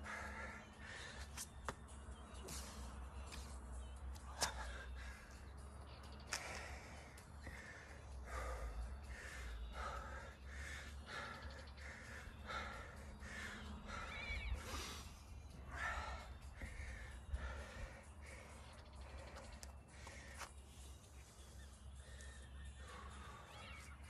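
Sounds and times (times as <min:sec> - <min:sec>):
man breathing hard: 0:00.0 - 0:24.0.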